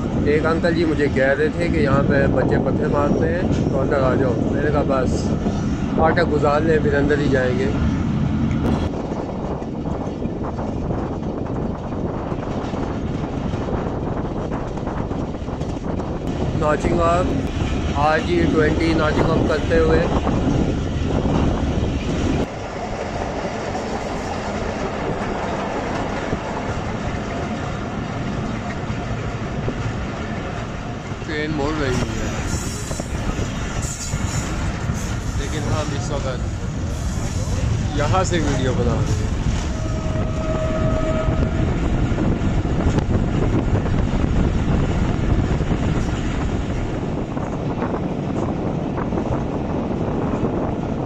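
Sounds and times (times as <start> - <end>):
train wheels rumbling and clattering: 0.0 - 51.0.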